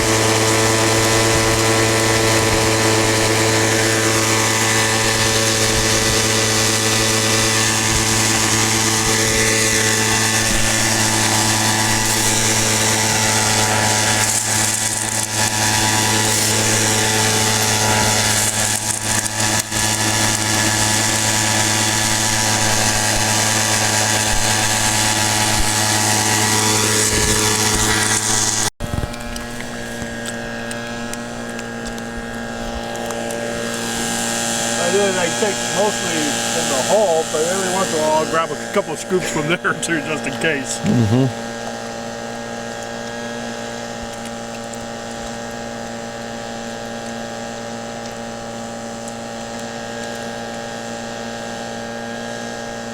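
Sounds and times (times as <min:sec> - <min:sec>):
small gas engine running: 0:00.0 - 0:52.9.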